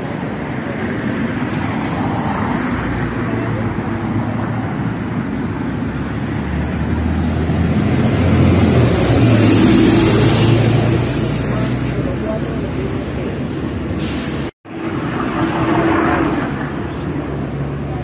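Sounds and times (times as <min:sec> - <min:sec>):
bus engine rumbling: 0:00.0 - 0:18.0
road traffic: 0:00.0 - 0:18.0.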